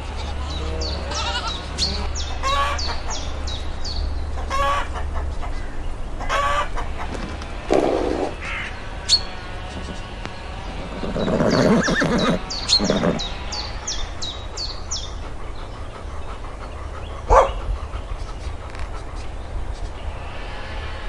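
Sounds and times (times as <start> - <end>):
farm animal calling: 0.0 - 18.8.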